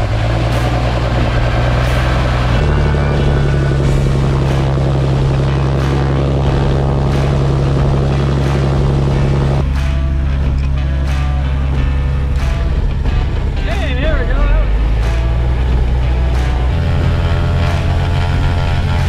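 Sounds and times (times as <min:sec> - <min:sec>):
airplane engines droning: 0:00.0 - 0:19.0.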